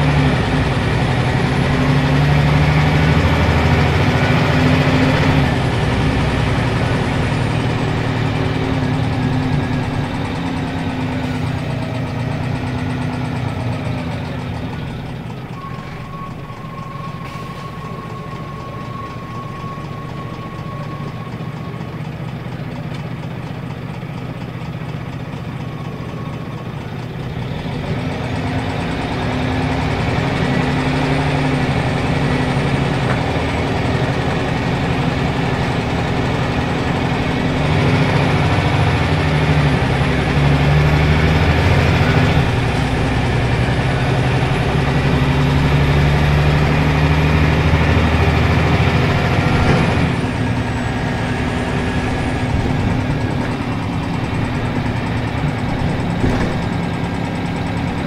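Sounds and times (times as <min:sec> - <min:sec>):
bus diesel engine pulling: 0:00.0 - 0:58.0.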